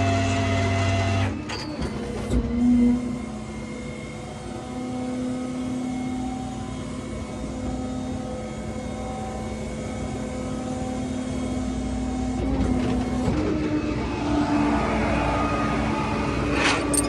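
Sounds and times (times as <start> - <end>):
truck engine drone: 1.9 - 17.0.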